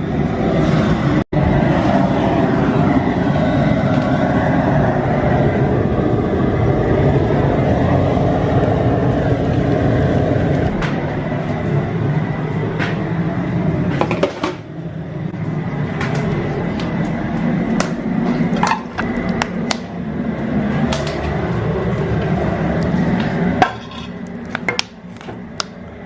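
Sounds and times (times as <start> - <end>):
propane burner flame rushing: 0.0 - 26.0
sap boiling in pot: 0.0 - 26.0.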